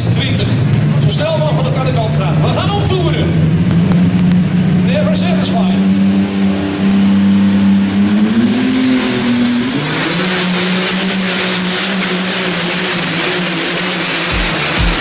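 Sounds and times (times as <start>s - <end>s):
vehicle engine at high revs: 0.0s - 15.0s.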